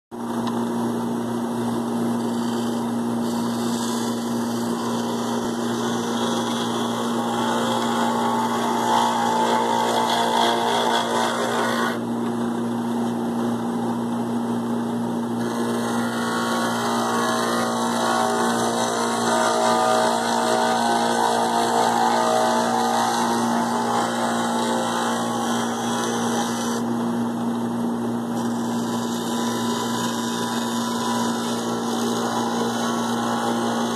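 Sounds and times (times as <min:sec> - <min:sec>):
tool cutting spinning wood: 0:00.3 - 0:12.1, 0:15.2 - 0:27.1, 0:27.7 - 0:33.9
lathe motor hum: 0:00.3 - 0:33.9.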